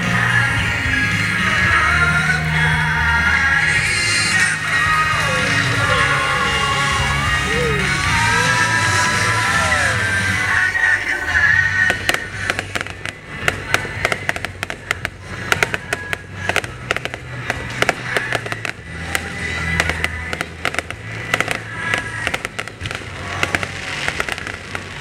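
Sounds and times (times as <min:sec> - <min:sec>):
fireworks bursting and crackling: 0:00.0 - 0:25.0
music playing: 0:00.0 - 0:25.0.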